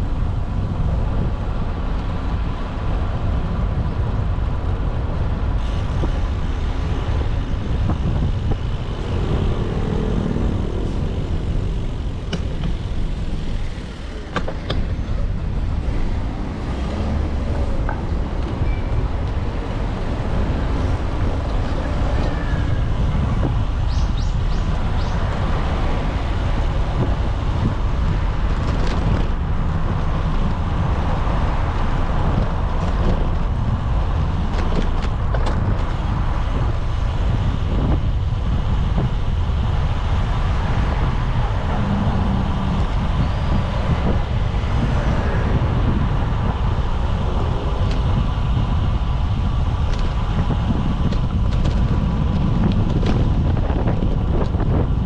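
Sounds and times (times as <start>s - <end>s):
road traffic noise: 0.0s - 55.0s
wind rumbling on microphone: 0.0s - 55.0s.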